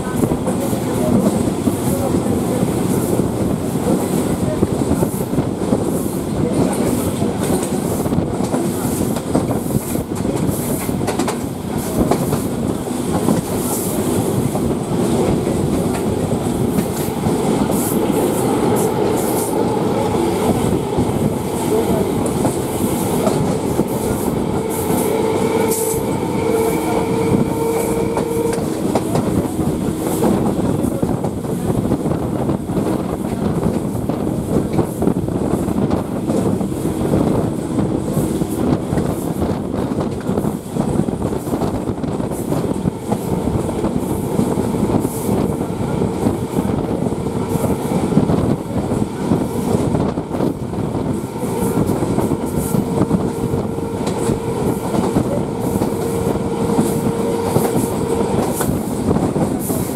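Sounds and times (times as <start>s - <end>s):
clickety-clack over rail joints: 0.0s - 59.9s
train wheels rumbling on rail: 0.0s - 59.9s
whine of wheels on rail: 0.0s - 59.9s
wind rush: 0.0s - 59.9s.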